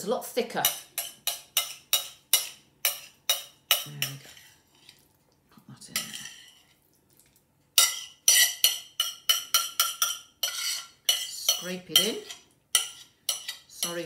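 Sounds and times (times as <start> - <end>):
metal utensil scraping a pan: 0.6 - 5.0, 5.9 - 6.8, 7.8 - 14.0.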